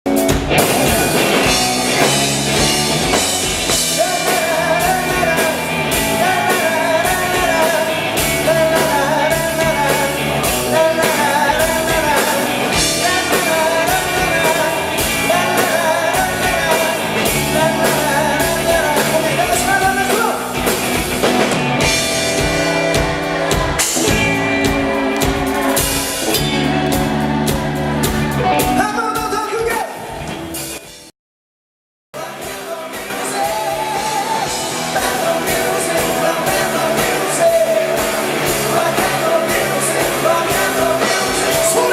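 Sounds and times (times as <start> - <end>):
drum kit: 0.0 - 31.1, 32.2 - 41.9
guitars: 0.1 - 31.0, 32.2 - 41.9
person singing: 0.6 - 2.7, 3.6 - 20.6, 21.8 - 29.9, 32.2 - 41.9.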